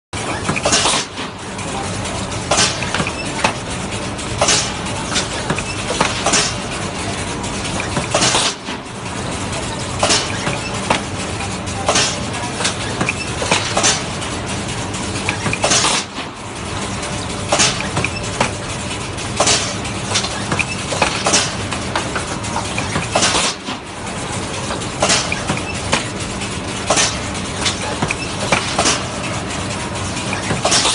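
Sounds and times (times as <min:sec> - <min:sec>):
production line machine noise: 0:00.2 - 0:30.9.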